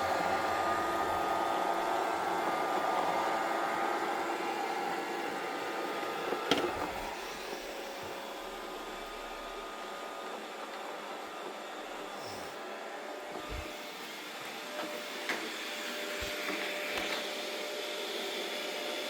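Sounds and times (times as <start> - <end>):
robot vacuum cleaner whirring: 0.0 - 19.0.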